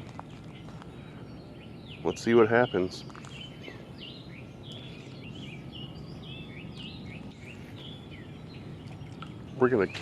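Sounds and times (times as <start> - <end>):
low outdoor background noise: 0.0 - 10.0
small birds chirping: 0.0 - 10.0.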